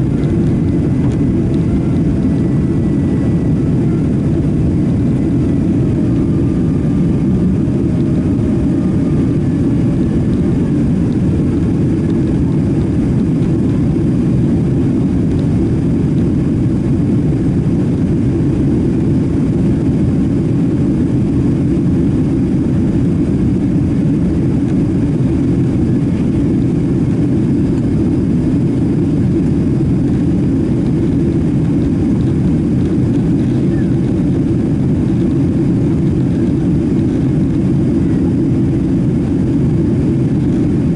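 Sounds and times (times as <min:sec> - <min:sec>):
jet cabin rumble: 0:00.0 - 0:40.9.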